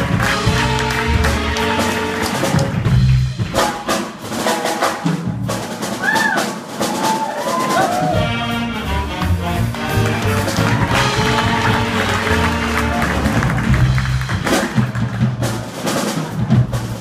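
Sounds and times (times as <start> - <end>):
jazz ensemble playing swing: 0.0 - 17.0.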